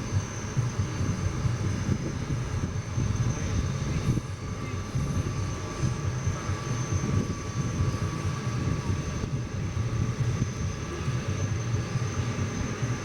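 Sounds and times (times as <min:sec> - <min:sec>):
high jet engine whine: 0:00.0 - 0:13.0
jet engines rumbling: 0:00.0 - 0:13.0.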